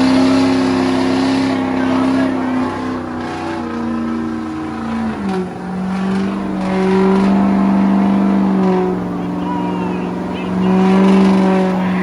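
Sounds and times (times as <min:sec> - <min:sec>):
diesel truck engine revving high: 0:00.0 - 0:12.0.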